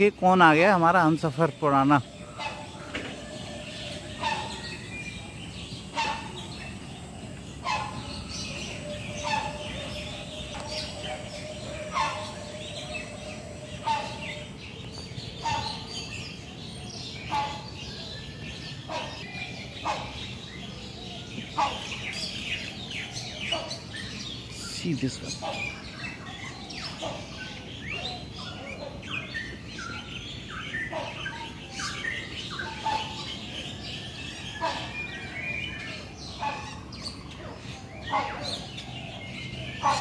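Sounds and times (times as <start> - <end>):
birds chirping and tweeting: 0.0 - 40.0.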